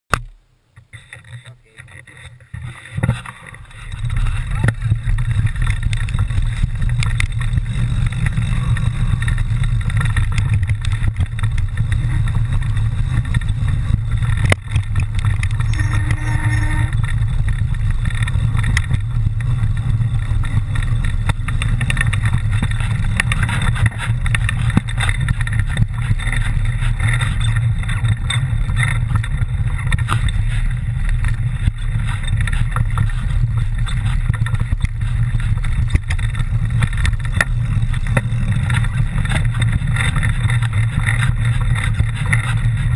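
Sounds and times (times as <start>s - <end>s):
bike clicks and rattles: 0.1s - 42.9s
wind rumble on microphone: 0.8s - 42.9s.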